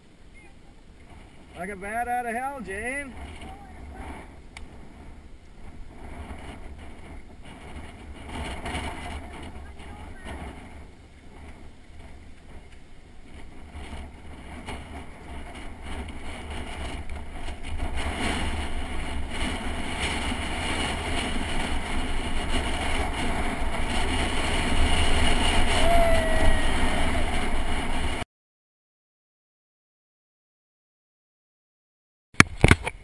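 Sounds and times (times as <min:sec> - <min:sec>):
wind buffeting microphone: 0:00.0 - 0:28.2.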